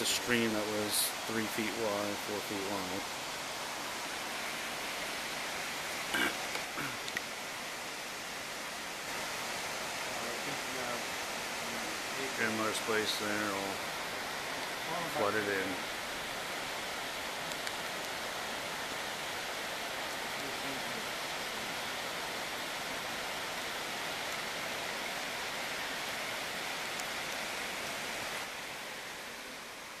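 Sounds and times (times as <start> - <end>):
rushing water hiss: 0.0 - 30.0.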